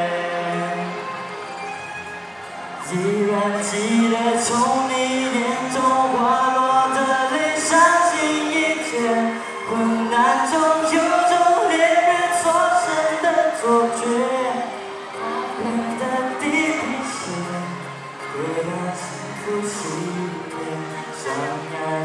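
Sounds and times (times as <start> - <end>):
man singing into a microphone: 0.0 - 1.5, 2.7 - 22.0
amplified backing music: 0.0 - 22.0.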